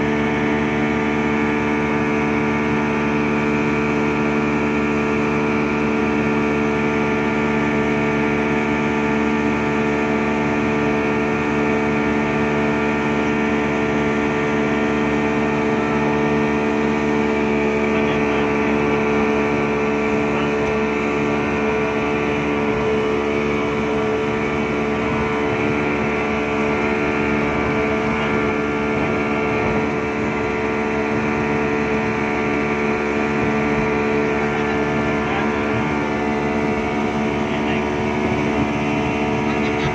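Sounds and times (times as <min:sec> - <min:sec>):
outboard motor running: 0:00.0 - 0:39.9
rushing water: 0:00.0 - 0:39.9.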